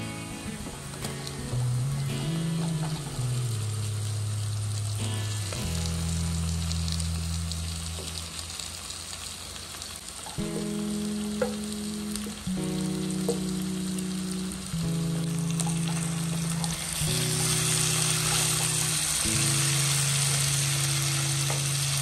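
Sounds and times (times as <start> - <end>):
background music low held notes: 0.0 - 8.5, 10.3 - 22.0
liver sizzling in oil: 0.2 - 22.0.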